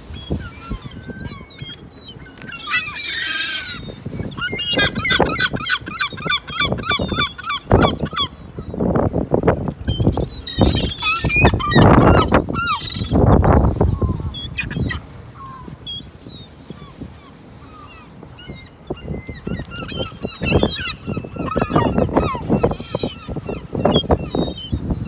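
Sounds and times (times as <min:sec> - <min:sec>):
gulls calling: 0:00.0 - 0:09.0, 0:09.8 - 0:25.0.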